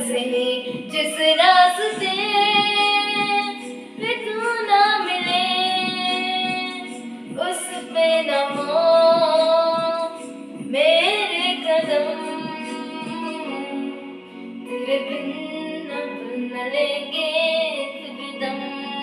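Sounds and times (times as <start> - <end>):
backing track music: 0.0 - 19.0.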